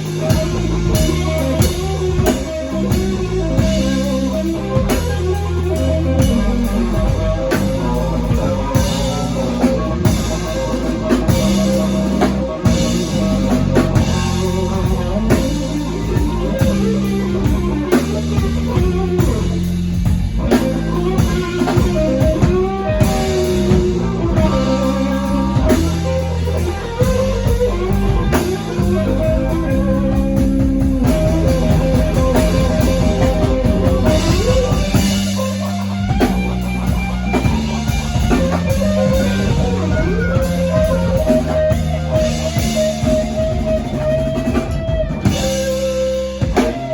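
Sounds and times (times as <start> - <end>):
bass guitar low notes: 0.0 - 46.9
blues band playing: 0.0 - 46.9
busy drum beat: 0.0 - 46.9.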